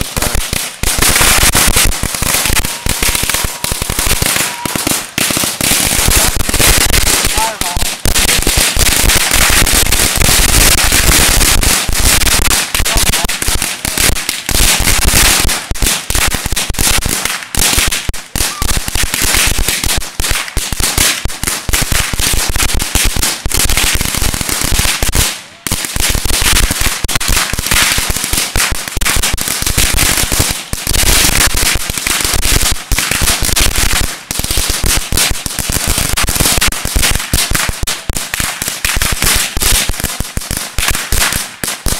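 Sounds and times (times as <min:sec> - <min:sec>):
firecrackers crackling: 0:00.0 - 0:41.9.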